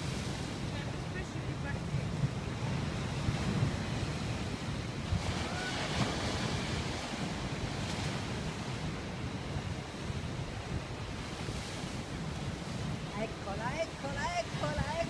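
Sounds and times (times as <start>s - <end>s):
surf breaking over rocks: 0.0s - 15.0s
wind buffeting microphone: 0.0s - 15.0s.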